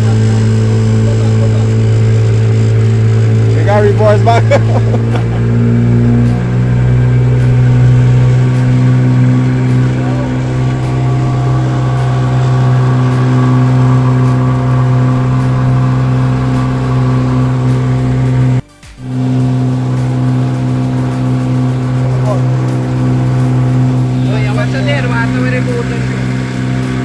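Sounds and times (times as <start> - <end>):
boat engine running: 0.0 - 27.0.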